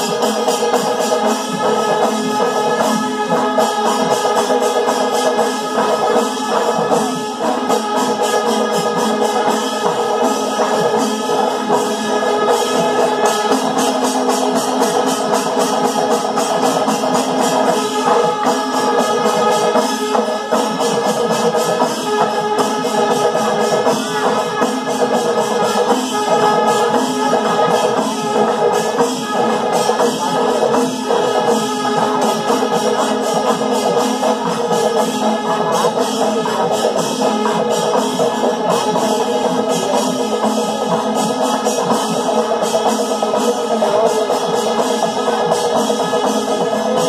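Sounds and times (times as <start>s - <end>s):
cymbals ringing: 0.0s - 47.0s
rapid drum strokes: 0.0s - 47.0s.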